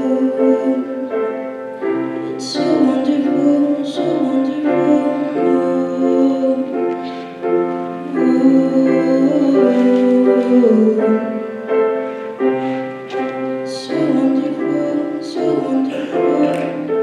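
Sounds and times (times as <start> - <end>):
slow piano music: 0.0 - 17.0
person singing long notes: 2.2 - 17.0.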